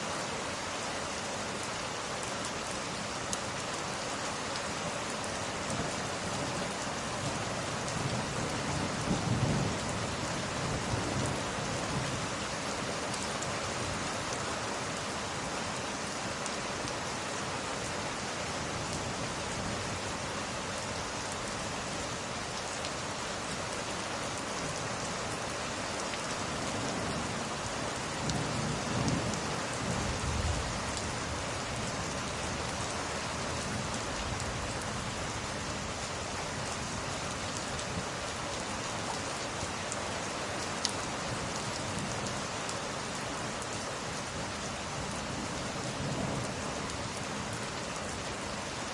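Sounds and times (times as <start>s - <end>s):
steady rain hissing: 0.0s - 48.9s.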